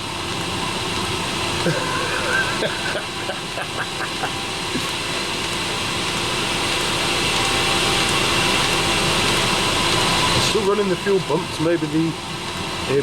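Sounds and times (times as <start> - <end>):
diesel air heater whirring: 0.0 - 13.0.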